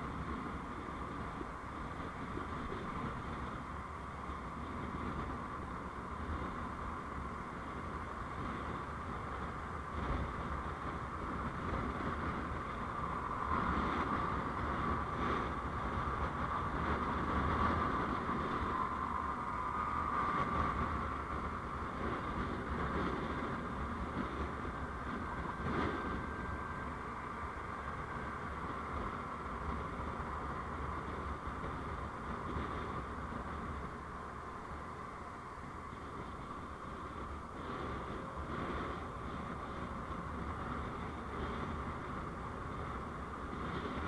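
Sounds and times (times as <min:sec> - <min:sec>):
road hiss: 0:00.0 - 0:44.0
vehicle engine and tyres rumble: 0:00.0 - 0:44.0.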